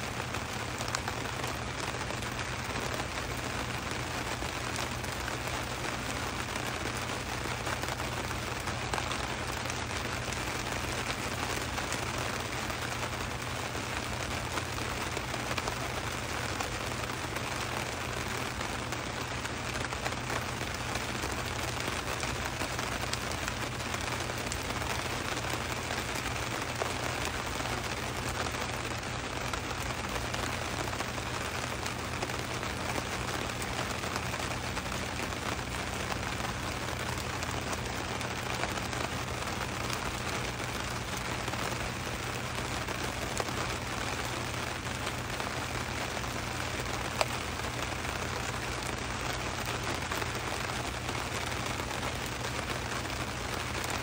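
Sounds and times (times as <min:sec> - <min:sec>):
steady rain hiss: 0:00.0 - 0:54.0
rain drop taps: 0:00.2 - 0:54.0.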